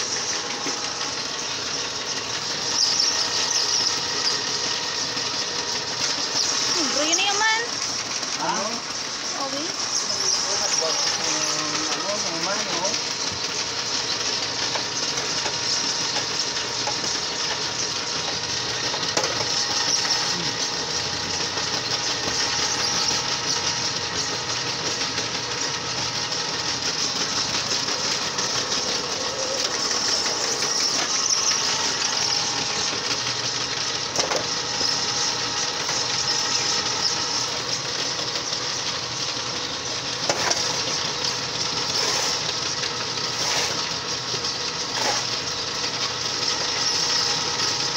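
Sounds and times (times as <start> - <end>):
clay mixer motor running: 0.0 - 47.9.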